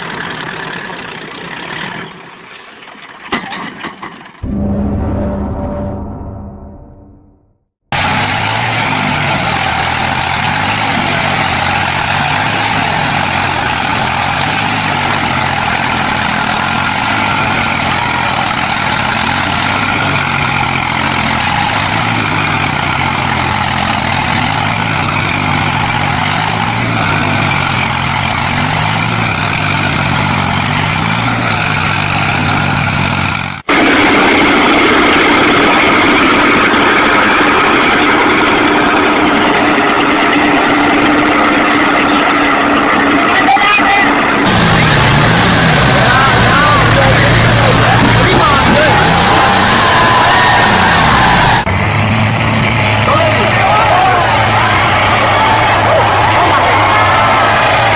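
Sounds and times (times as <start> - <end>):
tractor diesel engine running: 0.0 - 3.3, 7.8 - 57.9
higher-toned engine running: 4.4 - 57.9.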